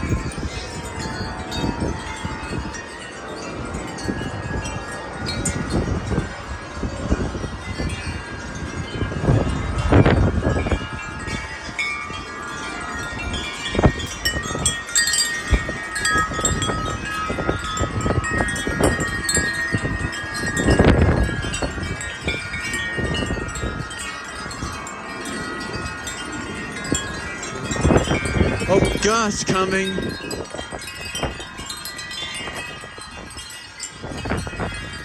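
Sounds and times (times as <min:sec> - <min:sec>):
wind buffeting microphone: 0:00.0 - 0:35.0
wind chimes ringing: 0:00.0 - 0:35.0.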